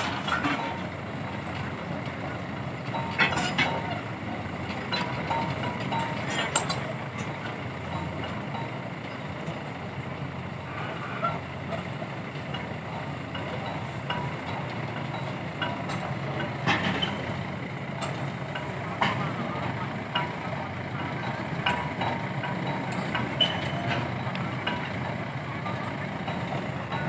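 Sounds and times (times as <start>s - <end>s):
diesel machinery running: 0.0s - 27.0s.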